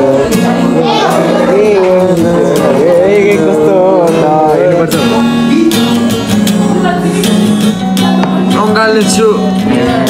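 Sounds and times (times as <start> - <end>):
acoustic guitar strumming: 0.0 - 10.0
young man singing: 0.0 - 10.0.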